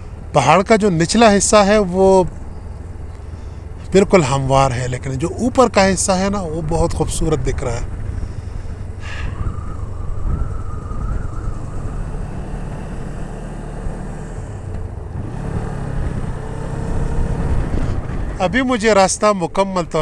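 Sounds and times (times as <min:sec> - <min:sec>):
motorcycle rumbling: 0:00.0 - 0:20.0.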